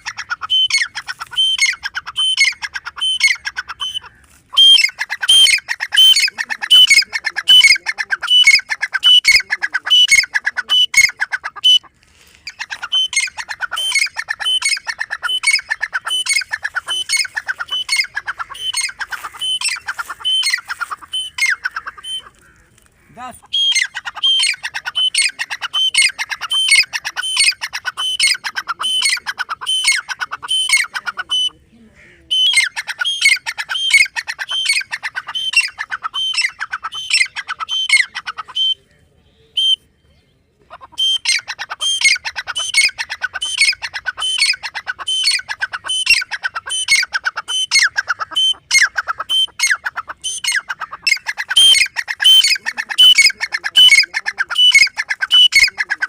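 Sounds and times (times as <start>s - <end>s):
bird calling shrill repeated notes: 0.0s - 39.9s, 40.7s - 56.0s.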